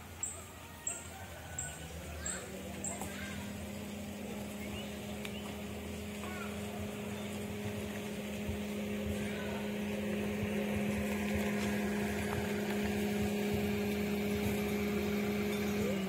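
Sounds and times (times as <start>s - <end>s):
motor humming steadily: 0.0s - 16.0s.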